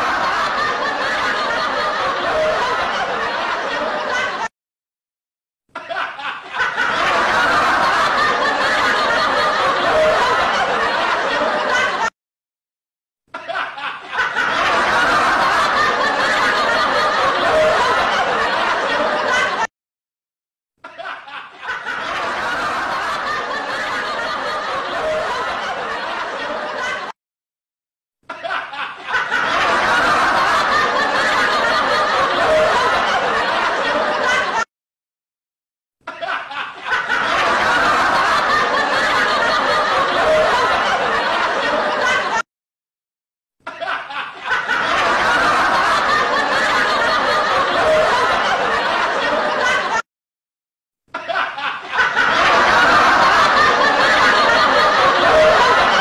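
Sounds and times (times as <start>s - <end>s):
people laughing: 0.0s - 4.5s, 5.7s - 12.2s, 13.3s - 19.7s, 20.8s - 27.2s, 28.3s - 34.7s, 36.0s - 42.5s, 43.6s - 50.1s, 51.1s - 56.0s.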